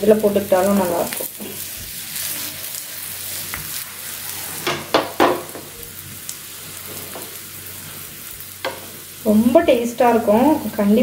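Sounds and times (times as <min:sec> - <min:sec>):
flatbread sizzling in oil: 0:00.0 - 0:11.0.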